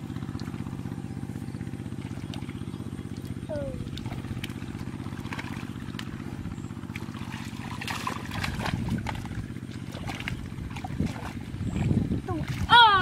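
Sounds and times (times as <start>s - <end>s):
low motor hum: 0.0s - 13.0s
muddy water splashing: 0.0s - 13.0s.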